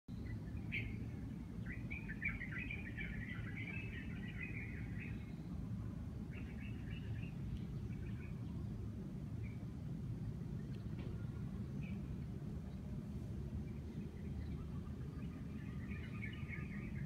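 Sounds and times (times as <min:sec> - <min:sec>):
low background rumble: 0:00.1 - 0:17.0
songbirds chirping: 0:00.1 - 0:17.0.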